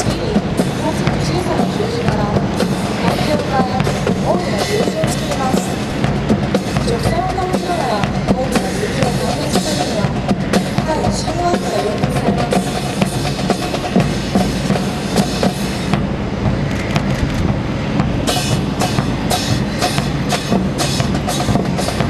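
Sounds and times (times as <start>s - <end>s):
marching music with drum beat: 0.0s - 22.0s.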